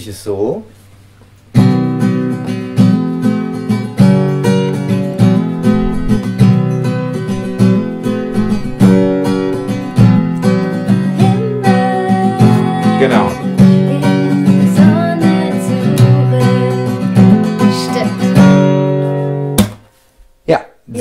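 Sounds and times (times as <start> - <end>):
acoustic guitar strumming: 1.0 - 20.4.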